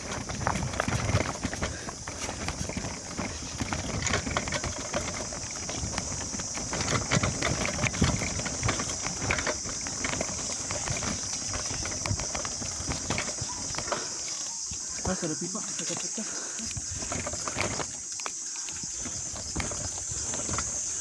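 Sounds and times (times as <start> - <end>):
bikes clattering over stones: 0.0 - 21.0
footsteps on stone trail: 0.0 - 21.0
high insect drone: 0.0 - 21.0.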